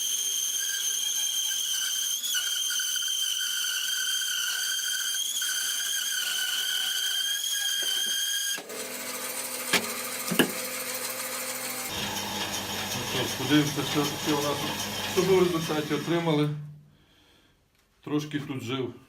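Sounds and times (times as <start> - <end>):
band saw cutting wood: 0.0 - 16.6.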